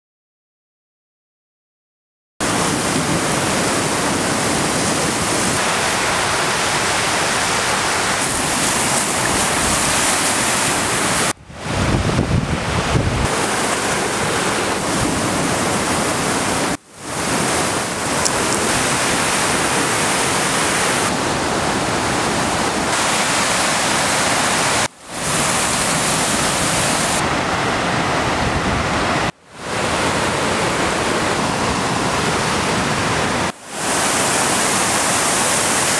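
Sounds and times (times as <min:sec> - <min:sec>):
whitewater roaring: 0:02.4 - 0:35.9.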